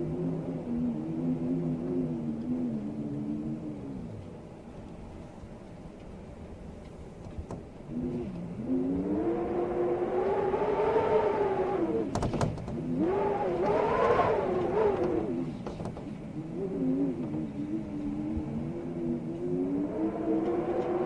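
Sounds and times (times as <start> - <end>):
storm wind howling: 0.0 - 21.0.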